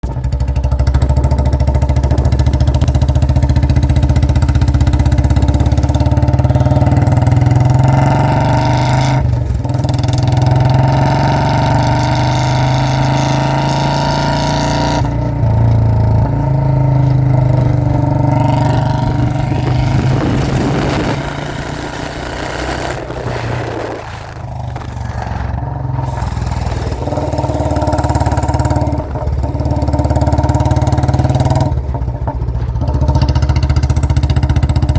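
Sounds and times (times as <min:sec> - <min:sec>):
loud motorcycle engine running: 0:00.0 - 0:34.9.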